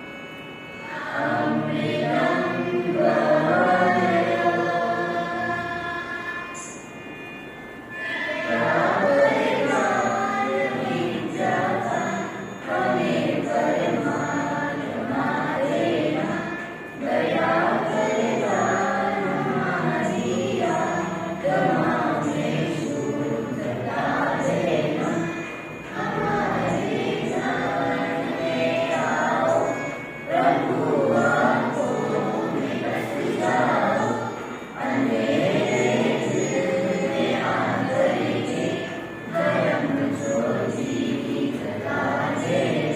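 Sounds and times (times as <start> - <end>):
students singing in chorus: 0.0 - 42.9.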